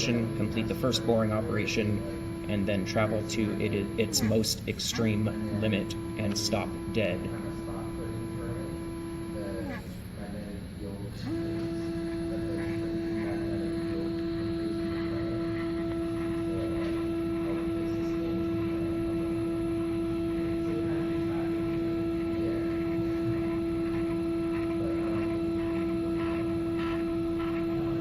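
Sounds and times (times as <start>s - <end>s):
stepper motor whine: 0.0s - 28.0s.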